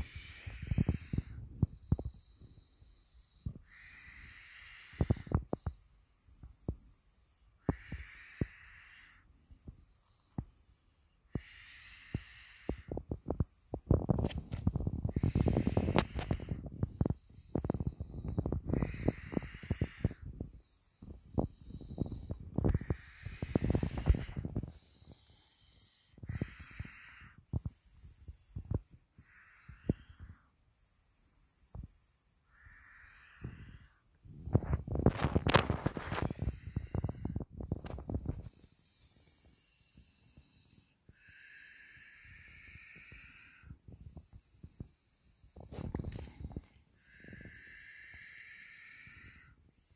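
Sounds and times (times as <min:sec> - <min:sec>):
snake hissing: 0:00.0 - 0:49.9.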